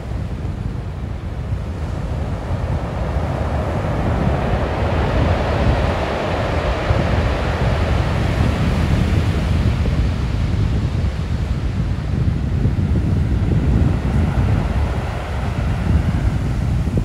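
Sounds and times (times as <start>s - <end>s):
sea waves washing onto beach: 0.0s - 17.0s
wind rumble on microphone: 0.0s - 17.0s.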